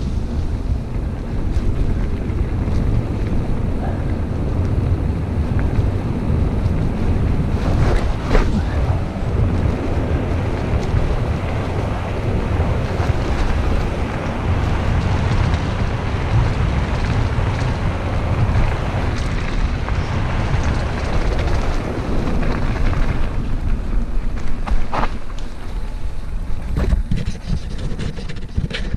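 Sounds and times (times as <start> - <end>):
tyres rolling over dirt: 0.0 - 28.9
wind buffeting microphone: 0.0 - 28.9.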